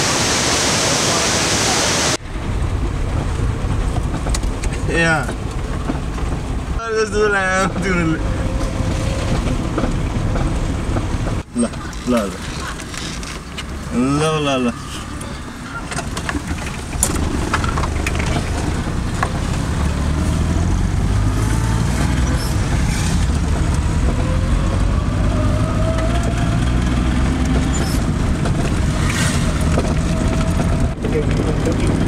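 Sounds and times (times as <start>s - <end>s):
engine rumbling: 2.1s - 32.0s.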